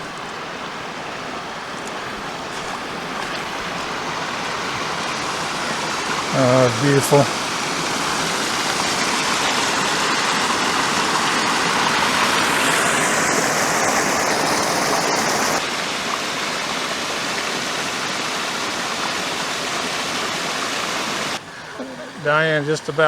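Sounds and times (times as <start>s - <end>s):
creek water rushing over falls: 0.0s - 23.0s.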